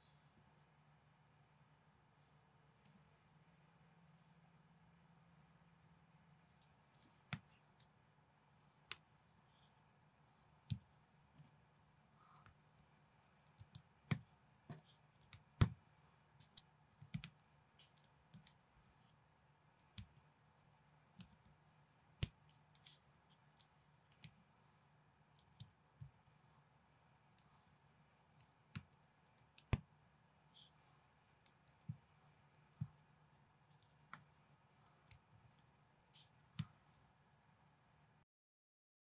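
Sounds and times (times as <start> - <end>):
faint low hum: 0.0 - 38.2.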